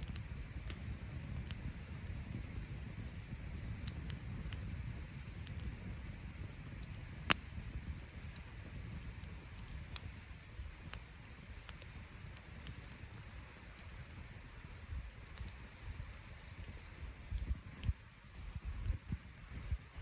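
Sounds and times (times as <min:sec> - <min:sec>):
campfire crackling and popping: 0:00.0 - 0:20.0
low steady rumble: 0:00.0 - 0:20.0.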